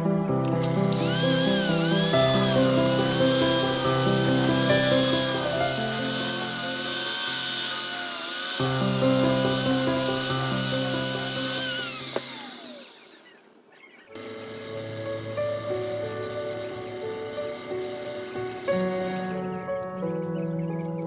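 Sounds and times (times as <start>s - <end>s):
background music: 0.0s - 12.2s, 14.2s - 21.0s
wood lathe whining: 0.0s - 20.1s.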